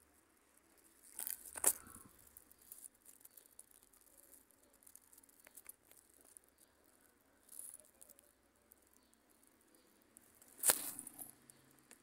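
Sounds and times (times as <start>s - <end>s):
dry rustling and crackling: 0.0s - 12.0s
faint clicks: 0.0s - 12.0s.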